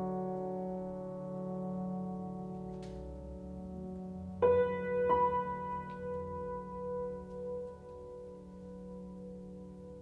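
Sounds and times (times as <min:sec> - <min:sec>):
grand piano notes ringing: 0:00.0 - 0:10.0.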